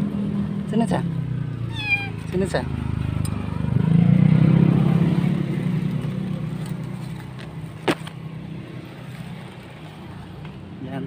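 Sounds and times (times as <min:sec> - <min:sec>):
vehicle engine passing: 0:00.0 - 0:11.0.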